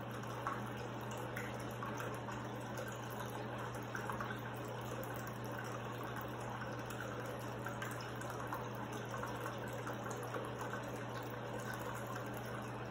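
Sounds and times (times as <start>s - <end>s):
fountain water trickling and splashing: 0.0s - 12.9s
steady low hum: 0.0s - 12.9s.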